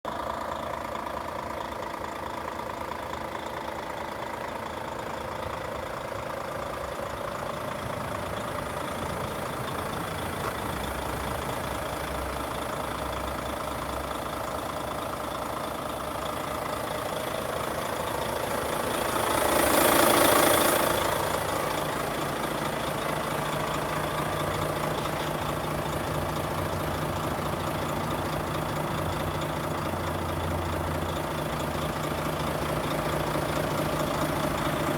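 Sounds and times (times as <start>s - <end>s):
diesel truck idling: 0.0s - 34.9s.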